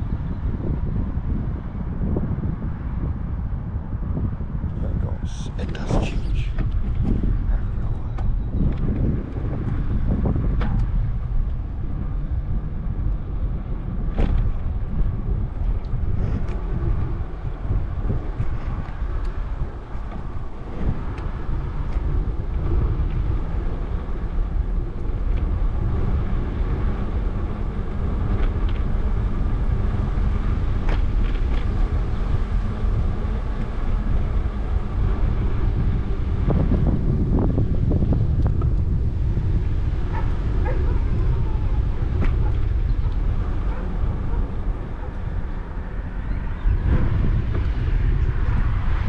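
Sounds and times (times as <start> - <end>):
road noise: 0.0 - 49.0
wind buffeting microphone: 0.0 - 49.0.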